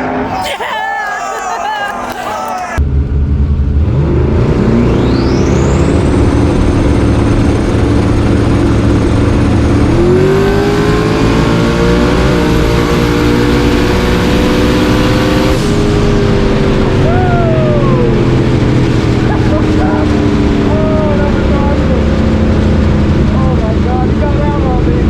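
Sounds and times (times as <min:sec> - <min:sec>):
drag racing car engine: 0:02.8 - 0:25.0.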